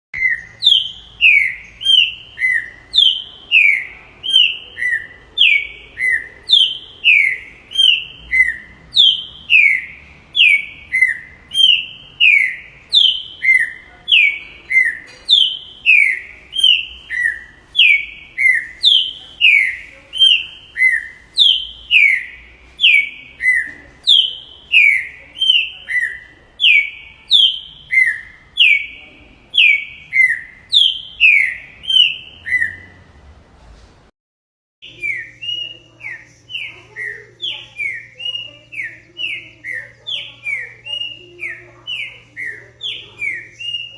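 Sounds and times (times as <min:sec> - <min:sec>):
bird singing whistled notes: 0:00.2 - 0:33.0, 0:34.8 - 0:43.9.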